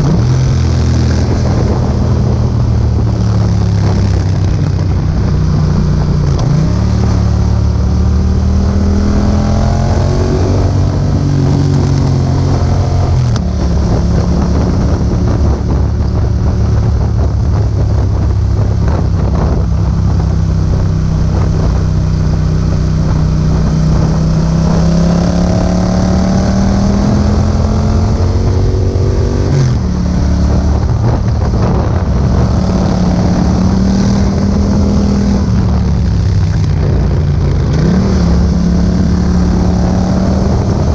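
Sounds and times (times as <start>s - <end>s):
motorcycle engine revving: 0.0s - 40.9s
wind noise on microphone: 0.0s - 40.9s.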